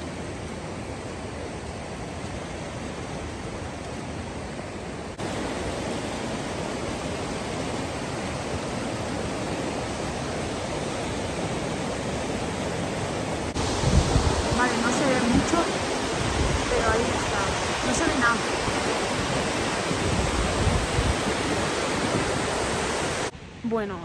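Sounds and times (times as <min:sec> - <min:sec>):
rushing river water: 0:00.0 - 0:24.0.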